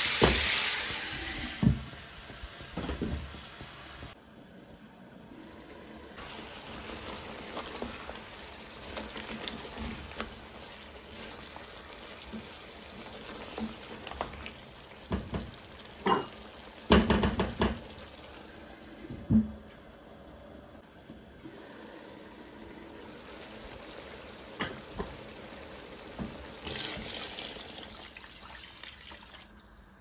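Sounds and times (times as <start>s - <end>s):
food sizzling in a pan: 0.0s - 20.4s, 21.2s - 30.0s.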